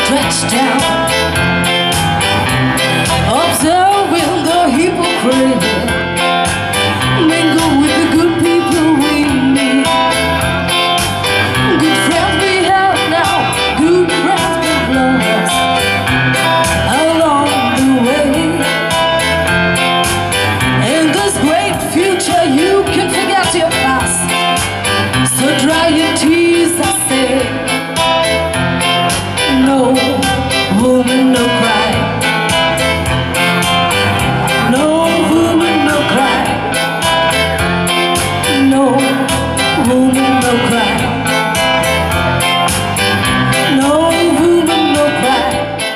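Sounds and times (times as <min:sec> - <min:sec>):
woman singing: 0:00.0 - 0:01.6, 0:02.8 - 0:19.3, 0:20.7 - 0:33.3, 0:34.4 - 0:37.5, 0:38.1 - 0:42.4, 0:43.4 - 0:45.9
electric guitar: 0:00.0 - 0:45.9
keyboard: 0:00.0 - 0:45.9.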